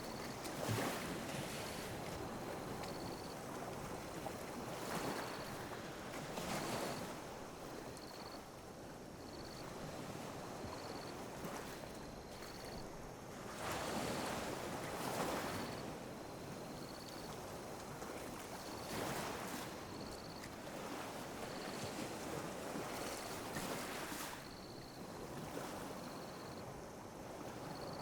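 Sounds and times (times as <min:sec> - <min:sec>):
small waves lapping on beach: 0:00.0 - 0:28.0.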